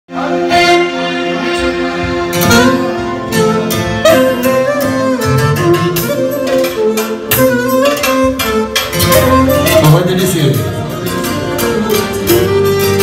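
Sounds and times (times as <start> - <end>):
clarinet melody: 0.1 - 13.0
electronic keyboard accompaniment: 0.1 - 13.0.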